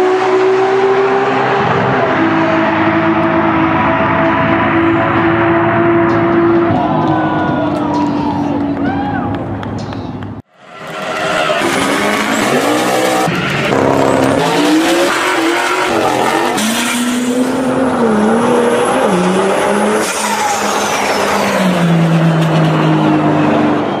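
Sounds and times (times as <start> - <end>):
car engine at full throttle: 0.0 - 9.8, 10.9 - 24.0.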